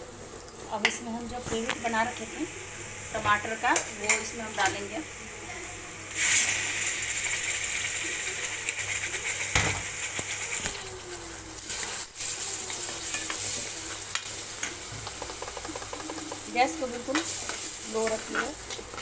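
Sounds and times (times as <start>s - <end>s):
onions sizzling in oil: 0.1s - 19.0s.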